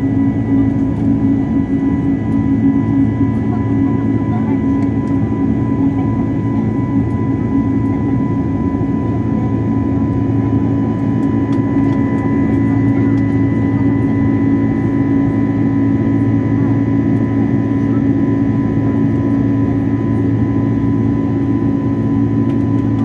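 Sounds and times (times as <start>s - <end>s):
airliner cabin engine drone: 0.0s - 23.0s.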